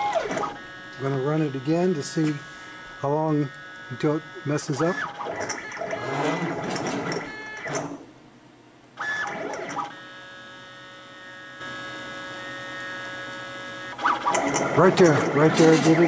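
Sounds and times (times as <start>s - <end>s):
stepper motors whining: 0.0s - 8.1s, 9.0s - 16.0s.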